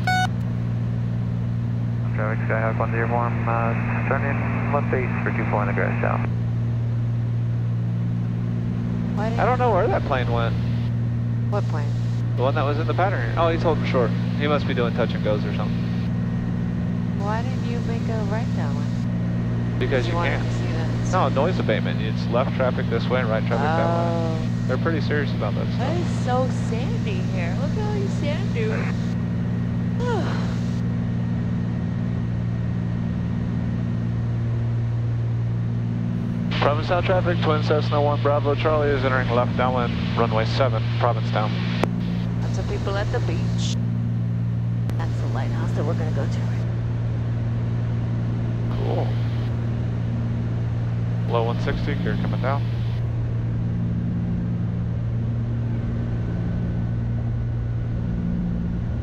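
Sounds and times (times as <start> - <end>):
airplane engines droning in cockpit: 0.0 - 59.0.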